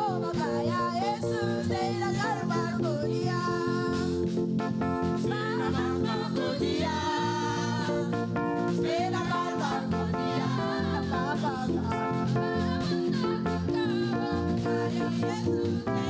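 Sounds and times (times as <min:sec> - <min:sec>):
gospel singing with instruments: 0:00.0 - 0:16.0.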